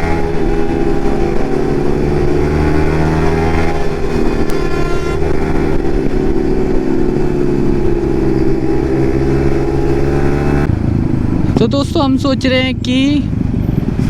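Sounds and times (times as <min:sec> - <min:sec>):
motorcycle engine exhaust note: 0:00.0 - 0:14.0.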